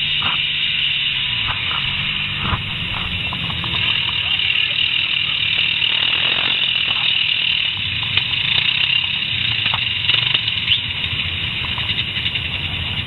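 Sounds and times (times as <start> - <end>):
quad bike engine revving: 0.0 - 13.0
wheels churning mud: 0.0 - 13.0.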